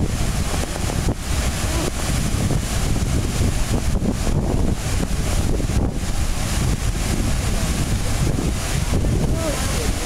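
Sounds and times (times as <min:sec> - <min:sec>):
waterfall rushing: 0:00.0 - 0:10.0
wind buffeting microphone: 0:00.0 - 0:10.0.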